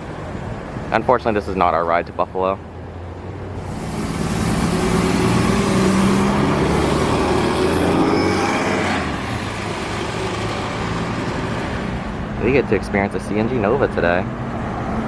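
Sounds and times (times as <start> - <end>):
bus driving past: 2.6 - 15.0.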